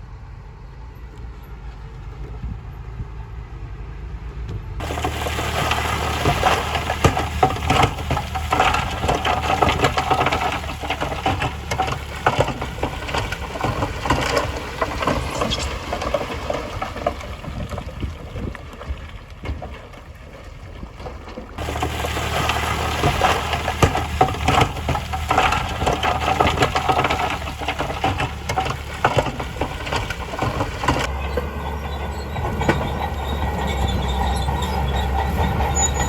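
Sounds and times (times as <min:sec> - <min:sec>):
diesel engine running low: 0:00.0 - 0:36.0
gravel crunching and clattering: 0:04.5 - 0:36.0.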